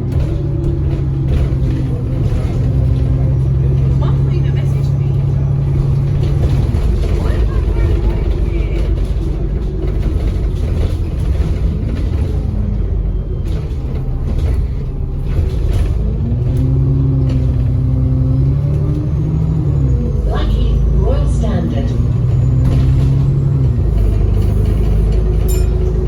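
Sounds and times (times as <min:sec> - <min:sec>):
bus diesel engine rumbling: 0:00.0 - 0:26.0
engine knocks: 0:00.0 - 0:26.0.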